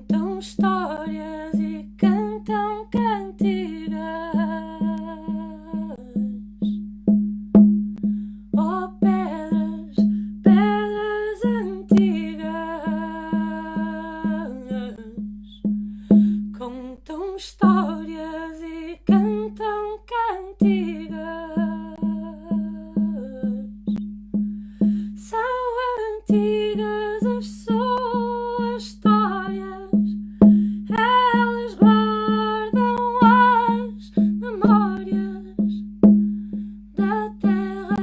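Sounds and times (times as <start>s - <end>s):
woman humming a melody: 0.0s - 6.9s, 8.0s - 24.1s, 25.2s - 36.2s, 36.9s - 38.0s
plucked or drummed pulse: 0.0s - 16.7s, 17.6s - 38.0s.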